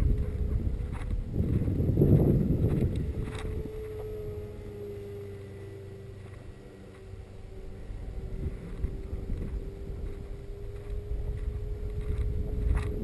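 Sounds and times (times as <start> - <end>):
electric motor and propeller humming: 0.0 - 13.0
wind rumbling on microphone: 0.0 - 13.0.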